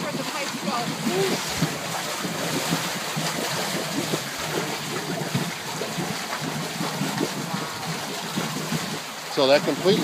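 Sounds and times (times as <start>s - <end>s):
water rushing into a drain: 0.0s - 10.0s.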